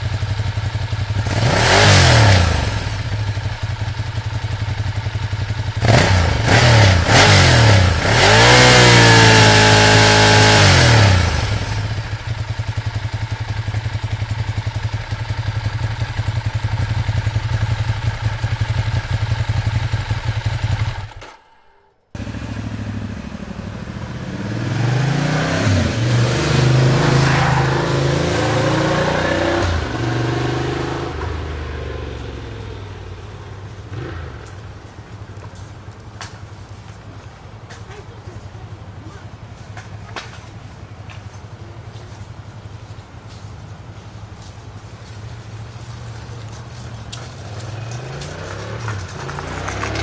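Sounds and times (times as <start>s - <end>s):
motorcycle engine idling and revving: 0.0s - 50.0s.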